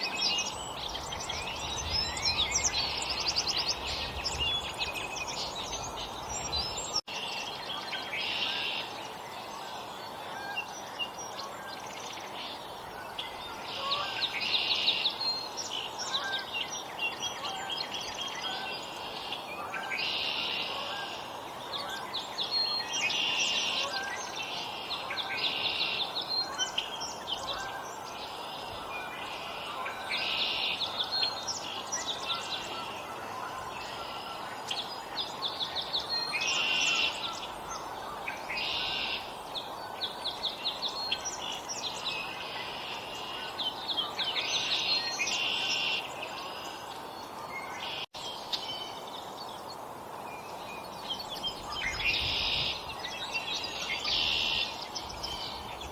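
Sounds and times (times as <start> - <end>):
outdoor background hiss: 0.0 - 55.9
songbirds chirping: 0.0 - 55.9.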